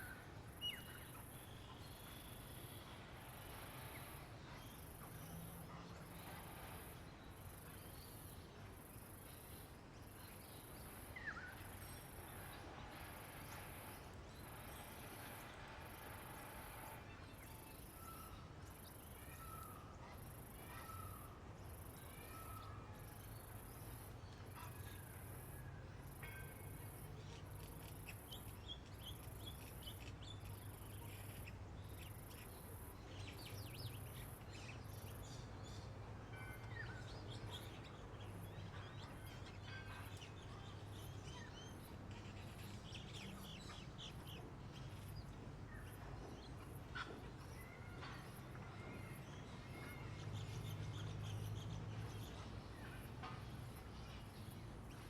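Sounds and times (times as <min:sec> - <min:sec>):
faint birdsong: 0:00.0 - 0:55.0.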